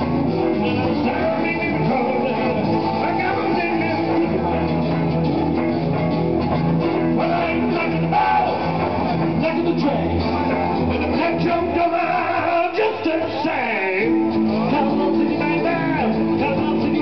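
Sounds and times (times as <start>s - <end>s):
bass line: 0.0s - 17.0s
electric guitar: 0.0s - 17.0s
live band music: 0.0s - 17.0s.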